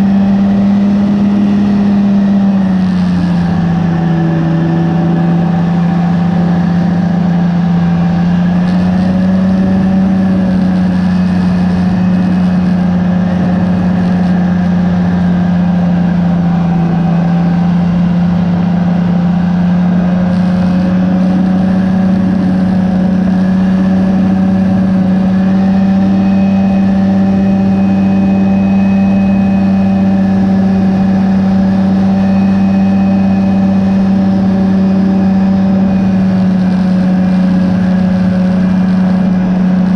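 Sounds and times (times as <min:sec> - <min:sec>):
two-stroke aircraft engine running: 0:00.0 - 0:39.9.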